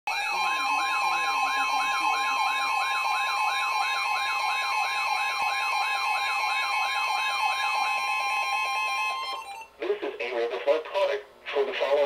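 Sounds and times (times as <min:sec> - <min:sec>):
electronic siren yelping: 0:00.1 - 0:09.8
steady high alert tone: 0:00.1 - 0:09.8.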